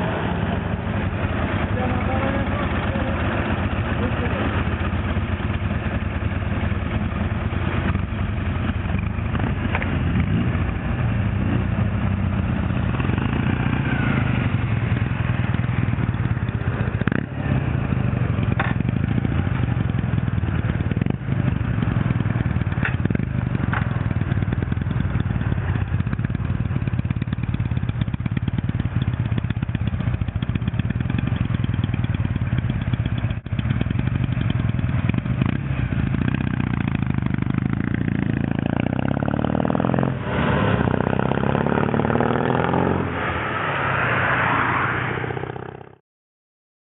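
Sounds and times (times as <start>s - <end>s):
motorcycle engine running: 0.0s - 43.2s.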